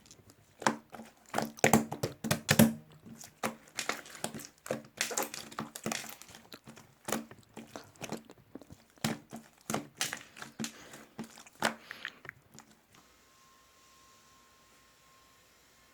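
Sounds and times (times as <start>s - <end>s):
drink packaging crackling: 0.0s - 13.0s.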